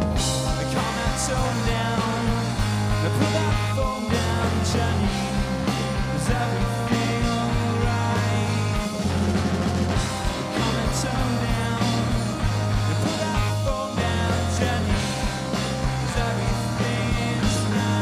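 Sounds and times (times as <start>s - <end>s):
bass guitar: 0.0s - 18.0s
drum kit: 0.0s - 18.0s
electric guitars: 0.0s - 18.0s.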